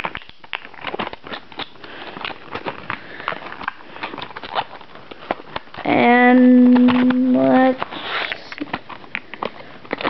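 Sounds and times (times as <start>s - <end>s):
packaging crackling and clicking: 0.0s - 10.0s.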